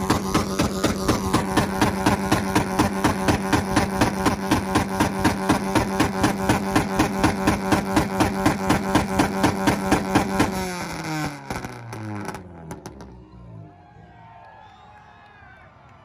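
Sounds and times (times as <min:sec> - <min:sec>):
exhaust pops and crackles: 0:00.0 - 0:13.2
car engine on launch limiter: 0:00.0 - 0:13.8.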